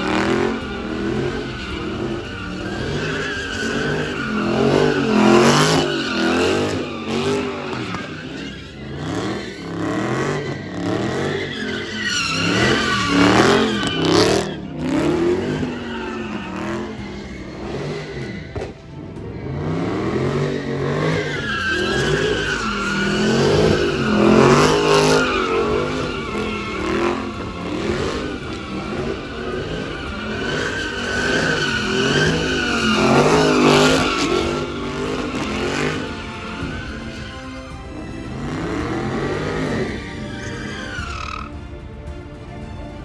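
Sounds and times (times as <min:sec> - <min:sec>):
tyres squealing: 0:00.0 - 0:18.8, 0:19.4 - 0:37.7, 0:38.3 - 0:41.5
car engine revving: 0:00.0 - 0:43.0.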